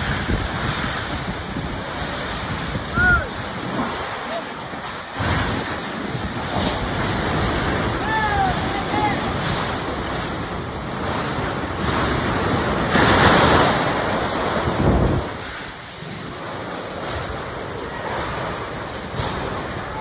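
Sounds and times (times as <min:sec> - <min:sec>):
wind gusts buffeting microphone: 0:00.0 - 0:20.0.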